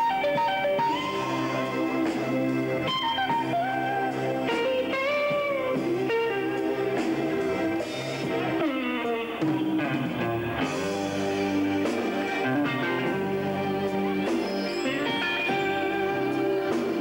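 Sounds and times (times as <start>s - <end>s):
electric guitar lead with bends: 0.0s - 17.0s
low accompaniment: 0.0s - 17.0s.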